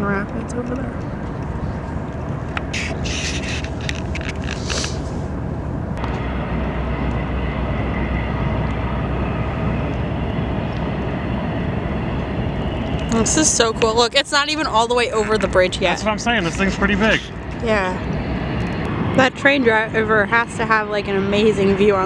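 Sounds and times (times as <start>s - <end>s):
train rumbling on tracks: 0.0s - 22.0s.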